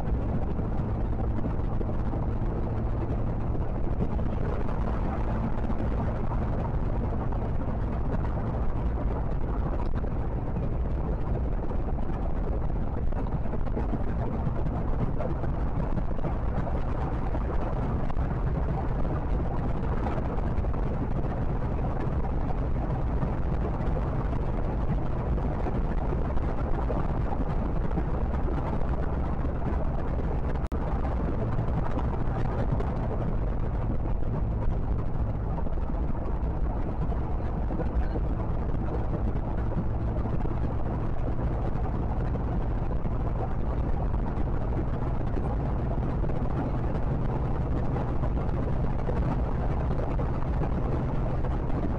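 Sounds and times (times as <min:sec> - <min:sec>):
low engine hum: 0:00.0 - 0:51.9
wind and tyre noise: 0:00.0 - 0:51.9.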